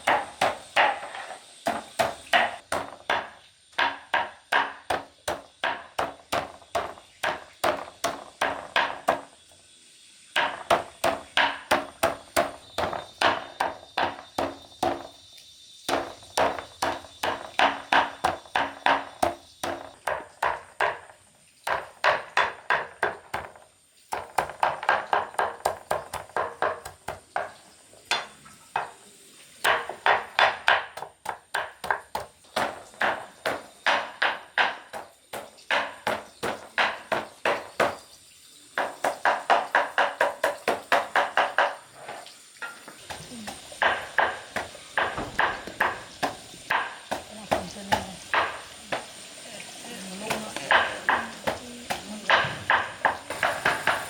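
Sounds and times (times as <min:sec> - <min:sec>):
chopping on wooden block: 0:00.0 - 0:09.4, 0:10.4 - 0:15.2, 0:15.9 - 0:21.1, 0:21.7 - 0:27.5, 0:29.6 - 0:38.0, 0:38.8 - 0:41.8, 0:43.1 - 0:49.1, 0:50.3 - 0:54.0.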